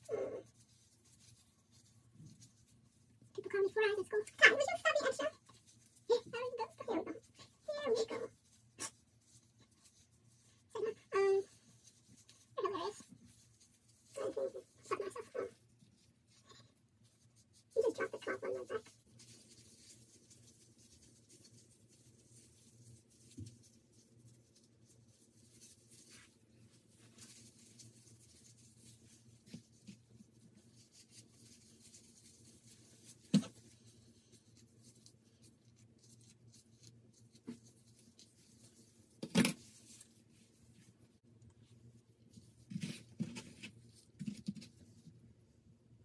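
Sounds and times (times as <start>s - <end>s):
gloved hands scratching hair: 0.0s - 45.2s.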